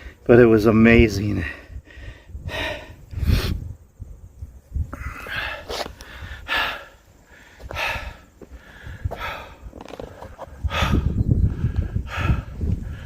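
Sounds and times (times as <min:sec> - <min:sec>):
man breathing heavily: 0:01.3 - 0:03.8, 0:04.8 - 0:13.0.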